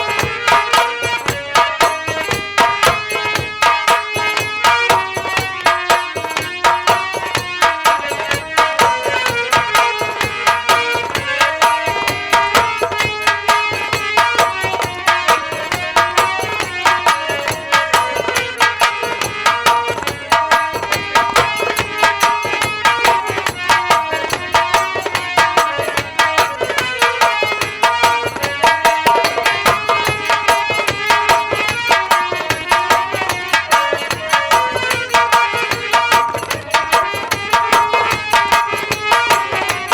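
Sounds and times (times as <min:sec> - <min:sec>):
fast hand-drum rhythm: 0:00.0 - 0:39.9.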